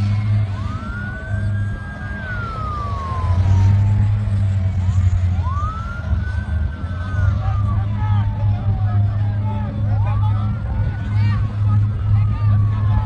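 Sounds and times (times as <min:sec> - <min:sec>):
emergency siren wailing: 0:00.0 - 0:13.0
steady low drone: 0:00.0 - 0:13.0.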